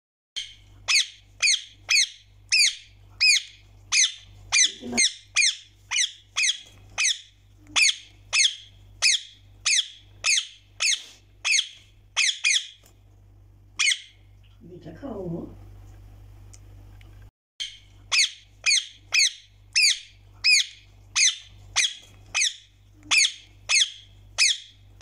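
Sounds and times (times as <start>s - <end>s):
parakeet calling: 0.4s - 12.8s, 13.8s - 14.2s, 17.6s - 24.8s.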